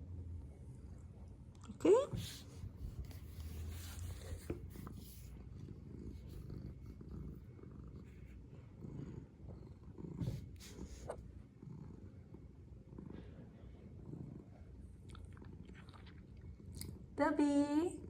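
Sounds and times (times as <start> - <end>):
cat purring: 0.4 - 17.2.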